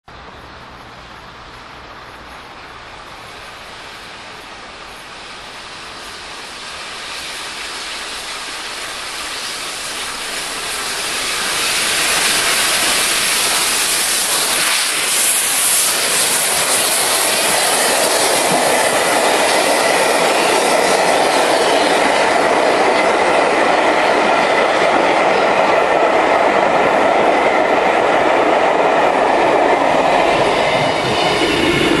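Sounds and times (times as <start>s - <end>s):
train rushing past: 0.1s - 32.0s.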